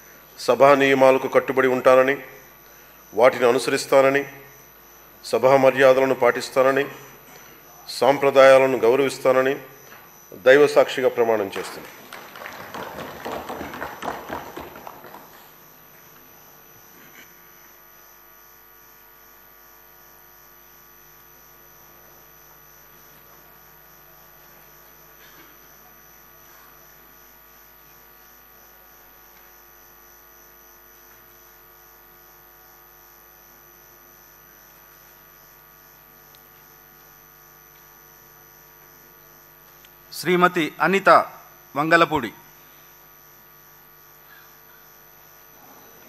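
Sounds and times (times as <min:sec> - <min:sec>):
low electrical hum with tones: 0:00.0 - 0:46.0.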